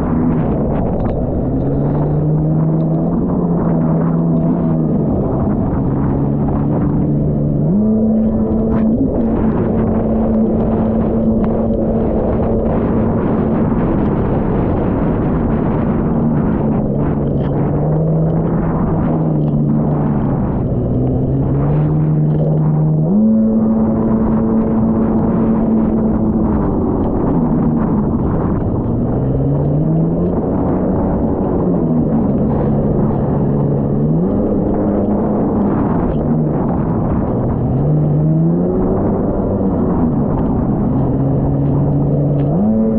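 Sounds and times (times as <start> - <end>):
dense rushing noise: 0.0 - 42.9
jet ski engine running hard: 0.0 - 42.9.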